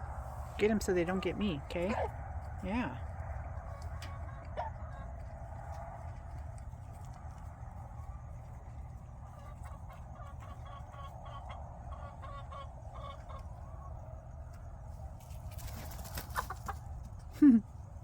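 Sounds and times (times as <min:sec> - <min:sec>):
steady low rumble: 0:00.0 - 0:15.5
young chickens clucking: 0:00.1 - 0:18.0.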